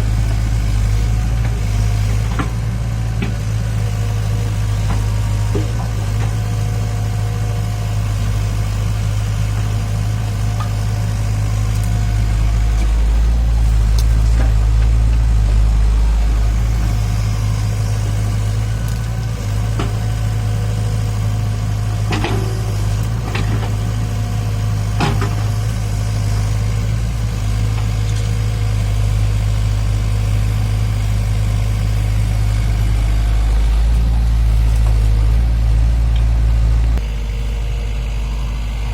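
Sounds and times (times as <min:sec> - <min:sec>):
heavy machinery diesel engine droning: 0:00.0 - 0:38.9.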